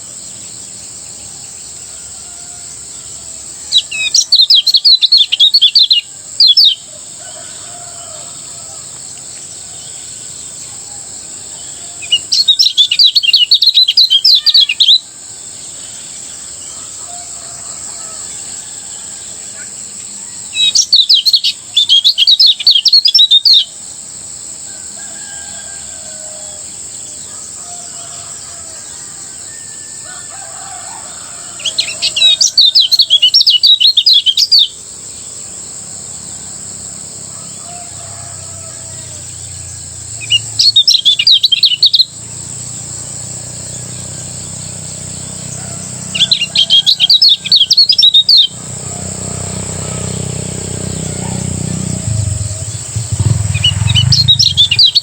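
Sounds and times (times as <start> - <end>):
bird twittering song: 0.0 - 23.8, 31.1 - 36.4, 38.4 - 55.0.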